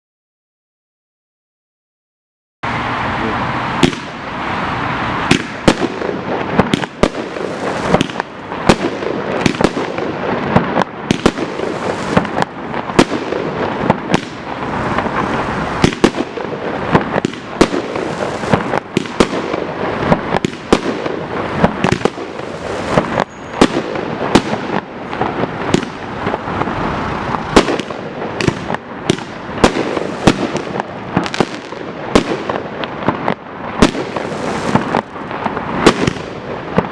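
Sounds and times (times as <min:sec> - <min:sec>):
fireworks bursts and crackle: 0:02.7 - 0:36.9
loud firework bangs: 0:02.7 - 0:36.9.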